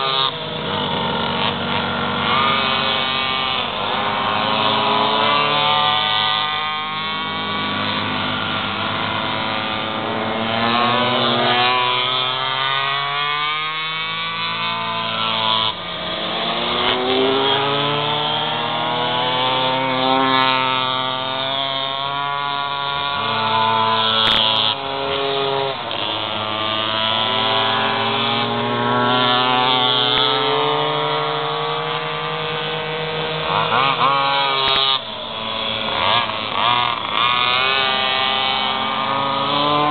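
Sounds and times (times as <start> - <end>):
pocketbike engines revving: 0.0 - 39.9.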